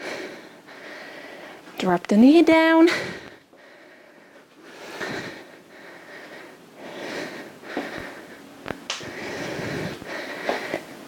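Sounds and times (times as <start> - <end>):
woman breathing hard: 0.0 - 1.7, 2.9 - 11.0.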